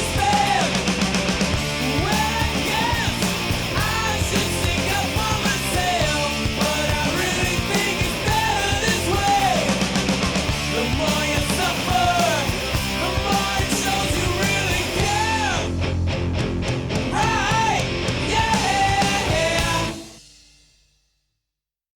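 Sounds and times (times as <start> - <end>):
rock music with shouted vocal: 0.0 - 20.3.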